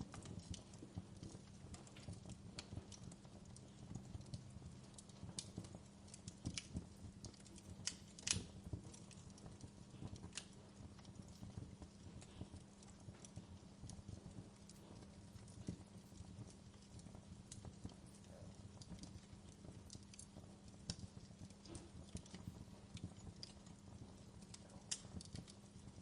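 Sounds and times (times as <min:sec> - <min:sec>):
fire pops: 0:00.0 - 0:26.0
low steady hum: 0:00.0 - 0:26.0
wood fire crackling: 0:00.0 - 0:26.0.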